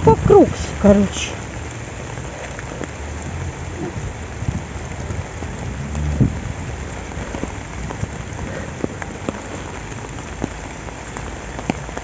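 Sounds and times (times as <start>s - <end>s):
rain falling: 0.0s - 12.0s
wind rumbling on microphone: 0.0s - 12.0s.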